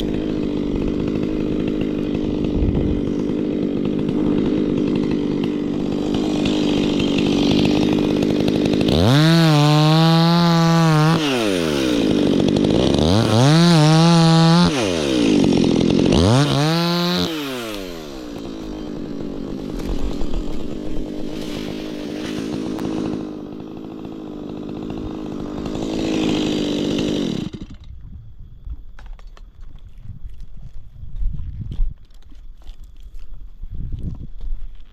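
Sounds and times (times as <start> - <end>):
chainsaw idling and revving: 0.0 - 28.0.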